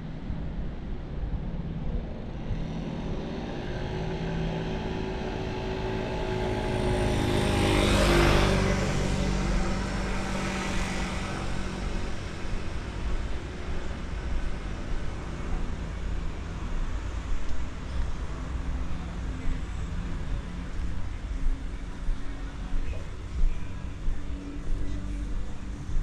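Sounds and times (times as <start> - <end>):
low rumble of traffic: 0.0 - 26.0
vehicle passing by: 2.3 - 26.0.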